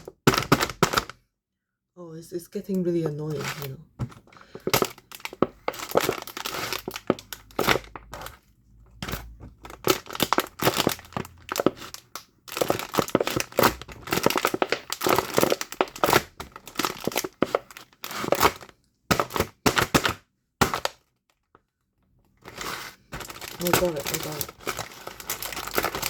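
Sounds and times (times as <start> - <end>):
crinkling handling noise: 0.0 - 1.2, 2.7 - 26.0.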